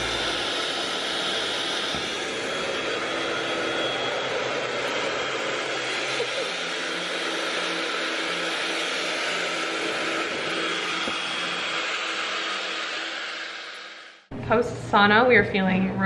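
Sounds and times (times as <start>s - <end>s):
hair dryer running: 0.0s - 14.6s.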